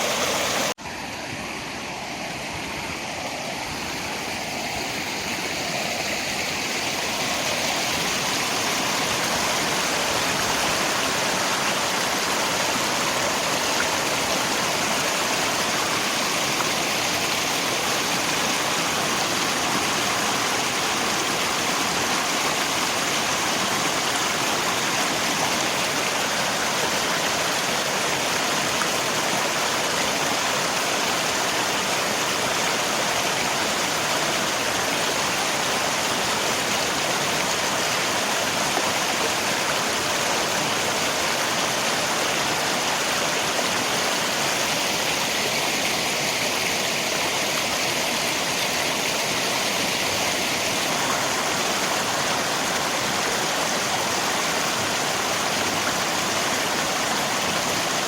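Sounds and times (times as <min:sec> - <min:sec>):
flowing river: 0:00.0 - 0:58.0
rain: 0:00.0 - 0:58.0.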